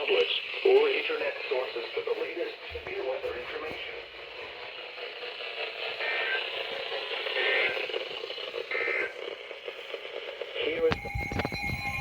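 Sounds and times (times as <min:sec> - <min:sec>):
radio static hiss and crackle: 0:00.0 - 0:12.0.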